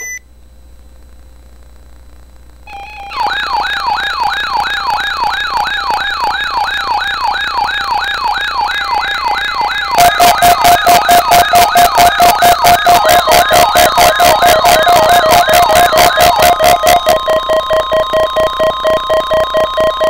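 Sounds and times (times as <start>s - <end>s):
electronic siren yelping: 2.7s - 20.0s.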